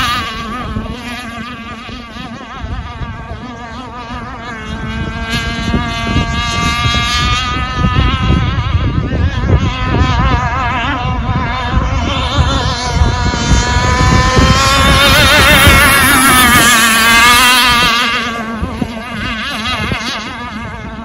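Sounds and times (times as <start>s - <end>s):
model boat motor whining: 0.0s - 21.0s.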